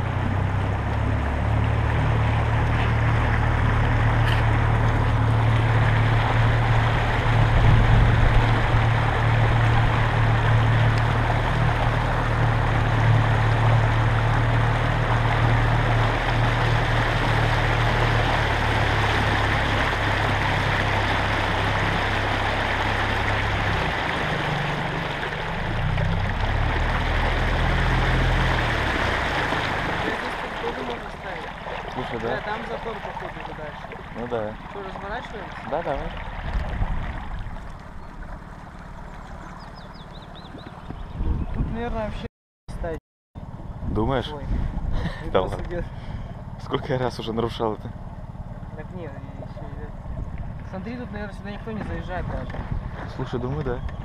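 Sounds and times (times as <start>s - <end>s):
outboard motor running: 0.0s - 54.0s
water rushing along hull: 0.0s - 54.0s
wind: 0.0s - 54.0s.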